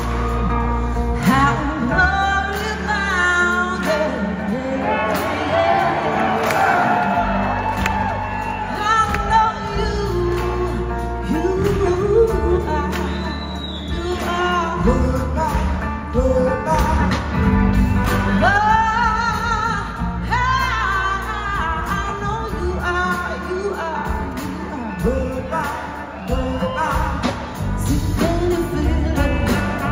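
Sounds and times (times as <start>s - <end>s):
live rock band playing: 0.0s - 29.9s.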